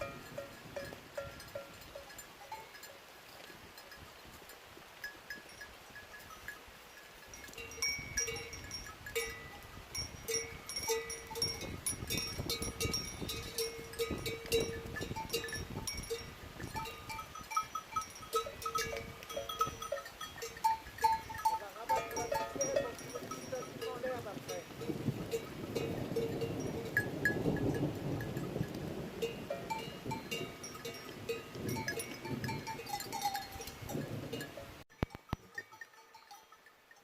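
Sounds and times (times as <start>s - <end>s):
small bells clanking: 0.0s - 37.0s.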